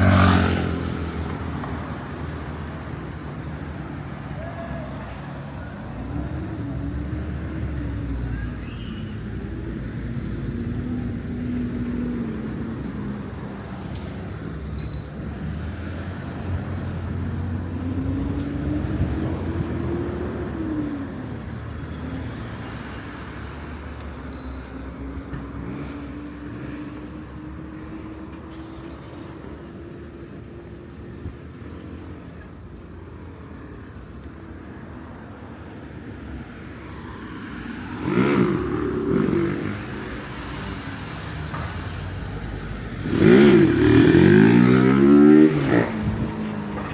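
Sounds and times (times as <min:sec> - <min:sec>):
steady low traffic rumble: 0:00.0 - 0:46.9
vehicle engines passing: 0:00.0 - 0:46.9.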